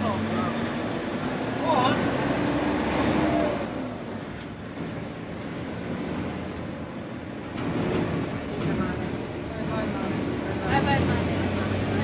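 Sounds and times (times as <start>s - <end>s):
road and wind noise: 0.0s - 12.0s
vehicle engine hum: 0.0s - 12.0s.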